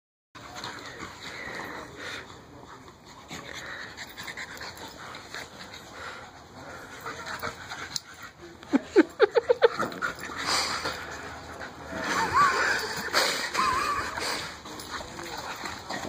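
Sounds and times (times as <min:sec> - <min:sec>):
dogs panting and scuffling: 0:00.4 - 0:16.0.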